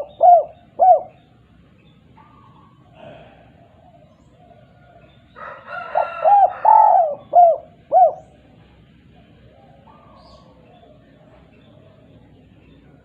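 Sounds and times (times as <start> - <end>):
dove cooing: 0.0 - 1.4, 2.1 - 12.2.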